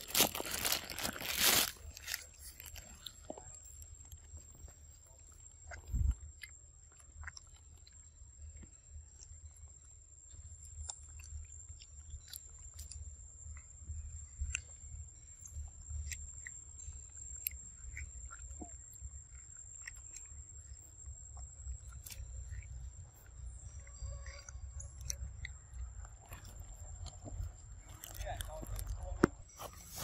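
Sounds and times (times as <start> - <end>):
monkey chewing wet fruit: 0.0 - 30.0.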